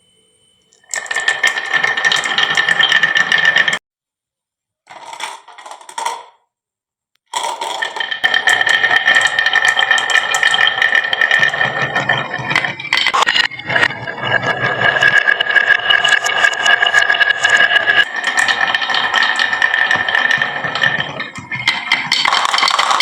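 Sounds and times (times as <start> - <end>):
marbles clattering down wooden run: 0.9 - 3.8, 4.9 - 6.3, 7.3 - 23.0.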